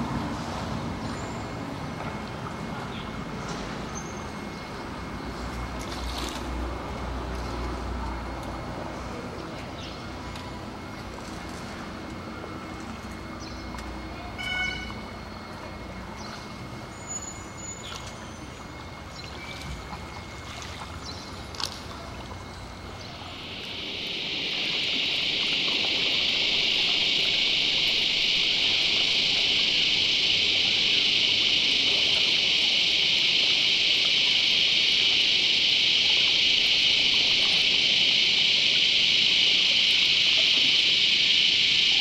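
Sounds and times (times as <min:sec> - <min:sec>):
boat motor rumbling: 0:00.0 - 0:41.9
traffic noise: 0:00.0 - 0:42.0.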